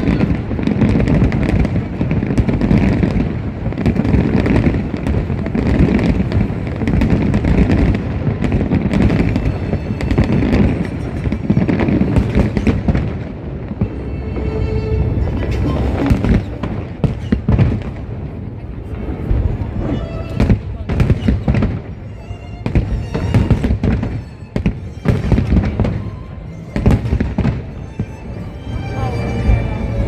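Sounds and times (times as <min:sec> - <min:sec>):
fireworks bursts and bangs: 0:00.0 - 0:29.6.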